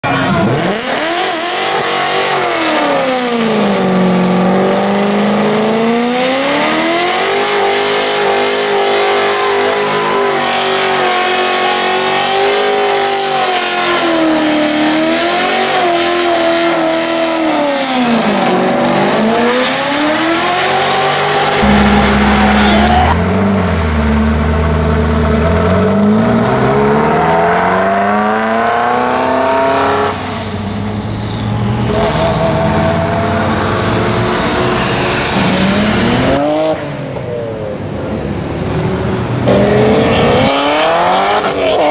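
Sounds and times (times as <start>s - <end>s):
car engine revving high: 0.4s - 37.0s, 39.4s - 41.9s.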